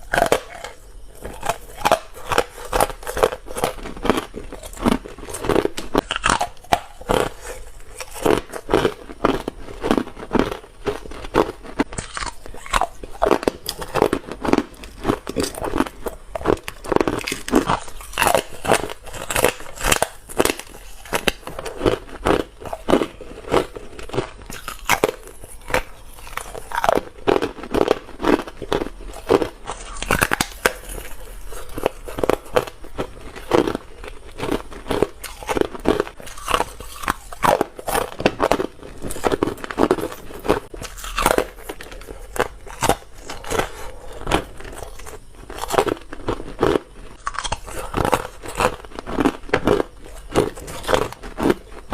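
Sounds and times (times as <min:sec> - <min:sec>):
ice crunching in mouth: 0:00.0 - 0:51.9.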